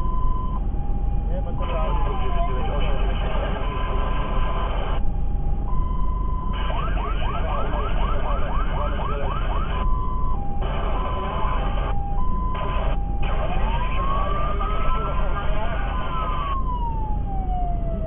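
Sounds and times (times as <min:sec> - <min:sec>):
engine and road rumble: 0:00.0 - 0:18.0
fire engine siren: 0:00.0 - 0:18.0.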